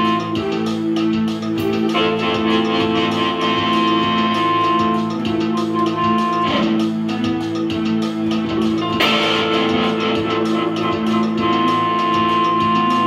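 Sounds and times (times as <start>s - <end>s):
keyboard sustained notes: 0.0s - 13.0s
electric guitar through amp: 1.6s - 13.0s.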